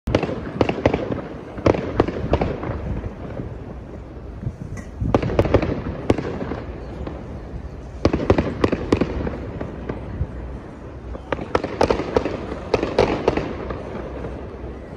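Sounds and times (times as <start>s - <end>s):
fireworks bursting: 0.1s - 14.9s.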